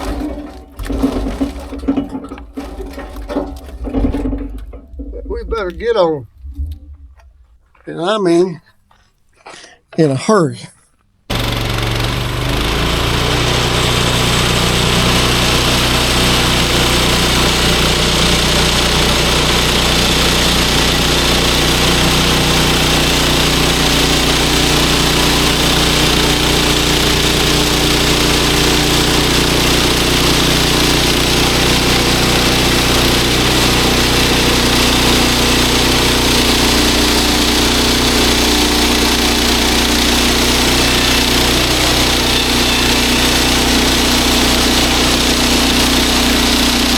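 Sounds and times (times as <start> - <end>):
small gas engine running: 0.0 - 6.0, 11.3 - 46.9.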